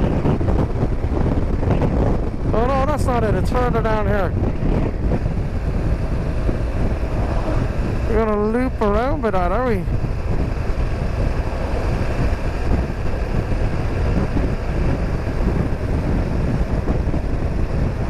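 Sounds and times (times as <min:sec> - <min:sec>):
motorcycle running: 0:00.0 - 0:18.0
wind rush on microphone: 0:00.0 - 0:18.0.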